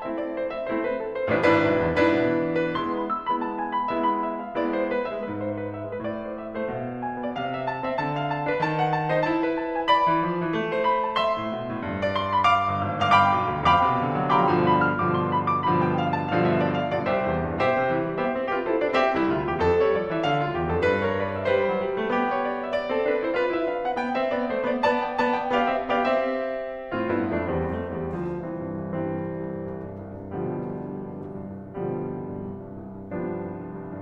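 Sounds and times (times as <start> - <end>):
piano playing a run of notes: 0.0 - 34.0.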